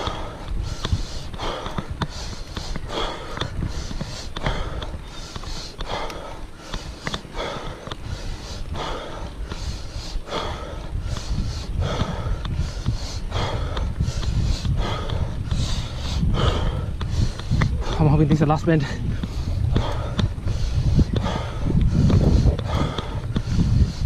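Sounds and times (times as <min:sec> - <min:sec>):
hard rhythmic breathing: 0:00.0 - 0:24.0
wind rumble on microphone: 0:00.0 - 0:24.0.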